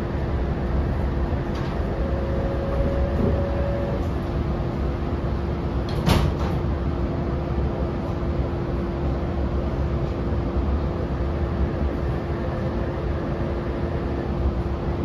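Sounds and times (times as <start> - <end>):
train interior rumble and hum: 0.0 - 15.0.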